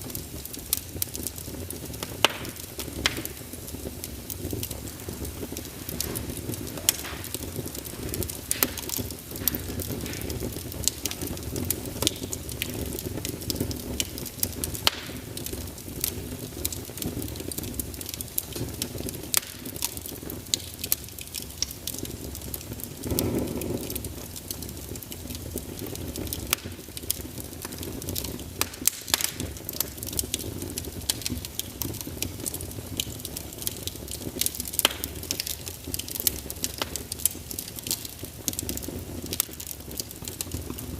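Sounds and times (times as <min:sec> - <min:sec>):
flames rumbling: 0:00.0 - 0:40.9
wood fire crackling and popping: 0:00.0 - 0:40.9.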